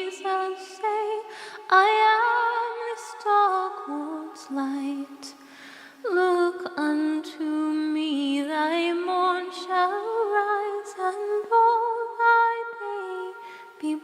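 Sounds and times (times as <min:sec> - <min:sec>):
solo voice singing a hymn: 0:00.0 - 0:05.4, 0:06.0 - 0:14.0.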